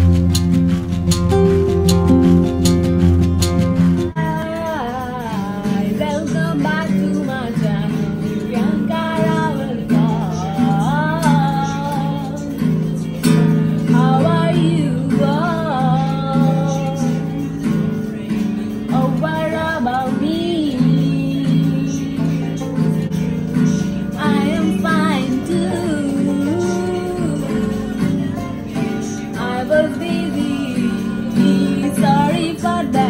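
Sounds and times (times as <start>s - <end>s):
acoustic guitar strumming: 0.0s - 33.0s
woman singing: 4.1s - 33.0s.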